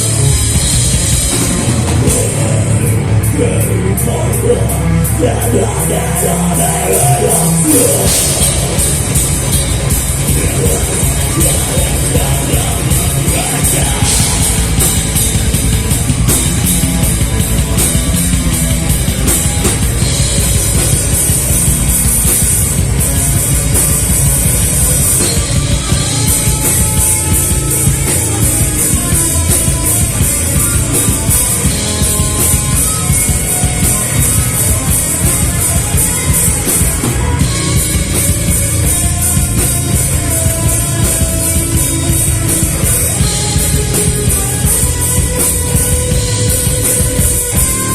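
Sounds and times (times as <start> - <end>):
drums and cymbals: 0.0 - 47.9
heavy metal band playing: 0.0 - 47.9.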